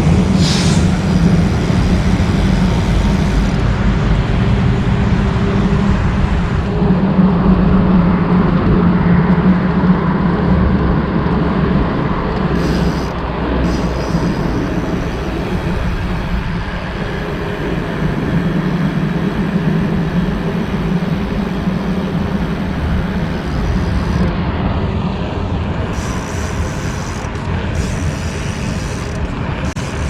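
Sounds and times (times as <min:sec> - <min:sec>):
bike tyre rumble: 0:00.0 - 0:30.0
wind buffeting microphone: 0:00.0 - 0:30.0.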